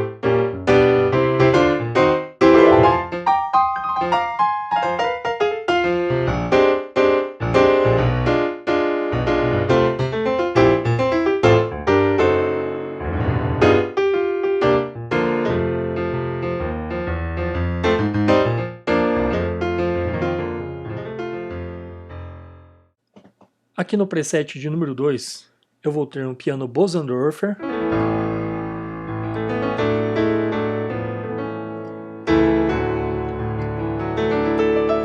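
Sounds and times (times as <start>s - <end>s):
piano chords and runs: 0.0s - 22.8s, 27.6s - 35.0s.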